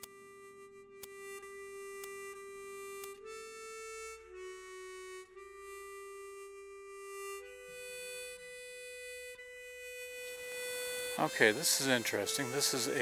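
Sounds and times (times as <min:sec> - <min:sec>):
slow harmonica tune: 0:00.0 - 0:13.0.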